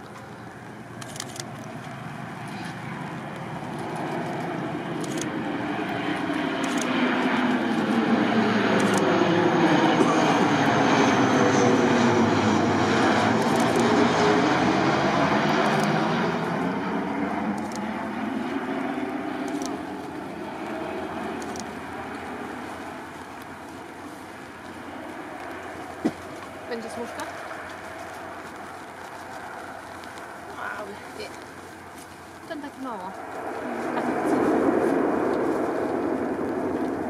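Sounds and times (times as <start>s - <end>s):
turboprop airliner passing: 0.0s - 37.0s.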